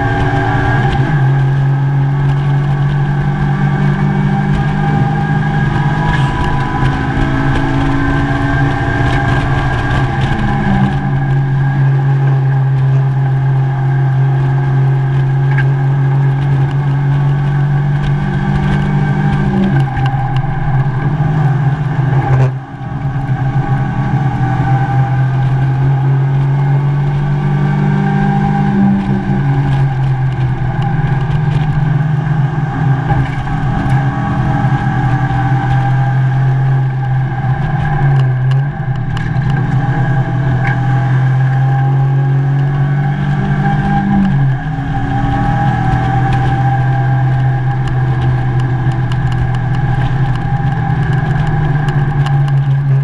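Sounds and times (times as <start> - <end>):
race car engine at high revs: 0.0 - 53.0.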